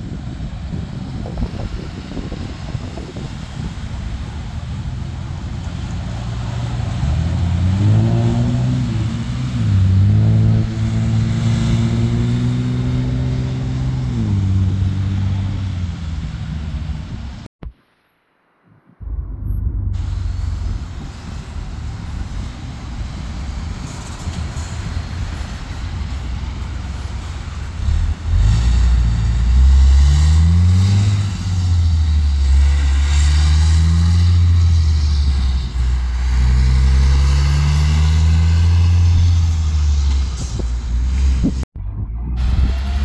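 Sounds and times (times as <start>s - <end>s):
traffic rumble: 0.0s - 17.5s, 18.5s - 43.0s
truck diesel engine accelerating: 0.0s - 17.5s, 19.0s - 43.0s.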